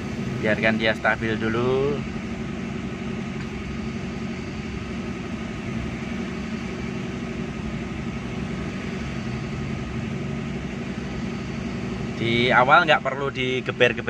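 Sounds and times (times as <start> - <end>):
car engine fast idle: 0.0 - 14.0.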